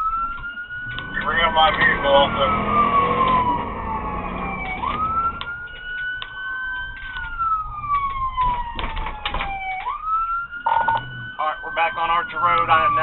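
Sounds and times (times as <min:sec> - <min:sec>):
police siren wailing: 0:00.0 - 0:13.0.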